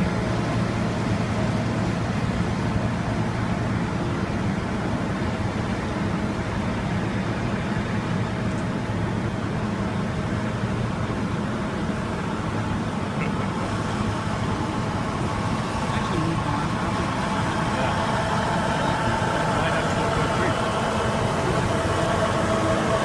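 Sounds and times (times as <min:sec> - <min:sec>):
diesel truck engines rumbling: 0:00.0 - 0:23.0
truck tyres on road: 0:00.0 - 0:23.0.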